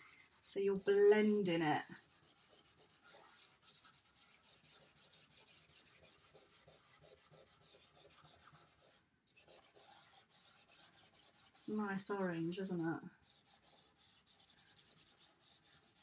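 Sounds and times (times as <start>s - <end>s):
hand rubbing chalk pastel on paper: 0.0s - 16.0s.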